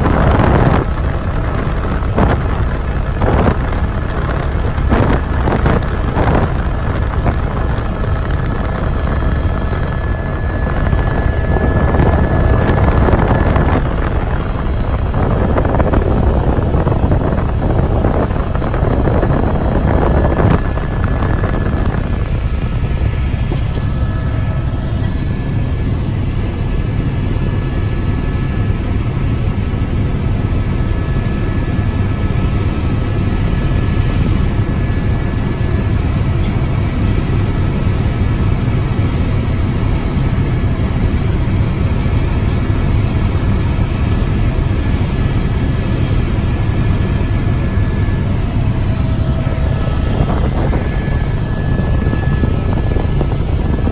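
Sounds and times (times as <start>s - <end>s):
helicopter rotor thrum: 0.0s - 53.9s
helicopter turbine whine: 0.0s - 53.9s.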